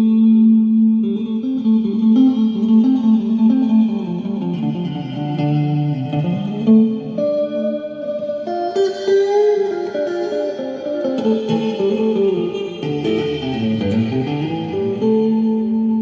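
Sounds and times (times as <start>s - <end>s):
guitar plucked melody: 0.0s - 16.0s.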